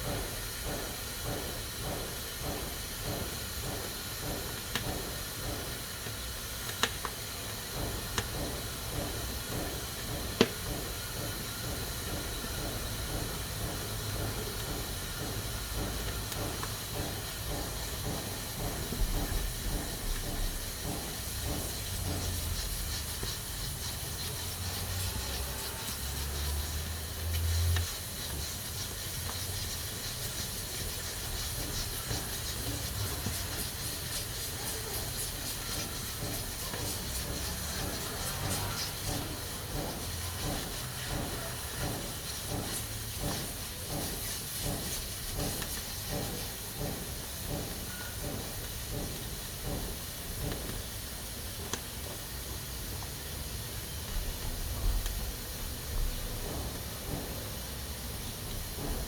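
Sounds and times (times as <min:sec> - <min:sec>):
pressure cooker valve hissing steam: 0:00.0 - 0:59.0.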